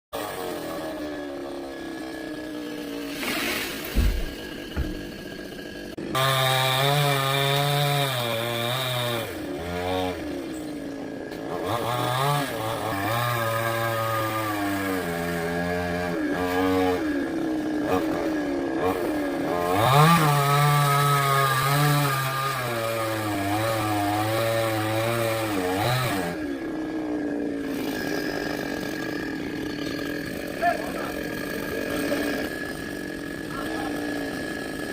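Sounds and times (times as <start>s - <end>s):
chainsaw cutting wood: 0.2s - 34.9s.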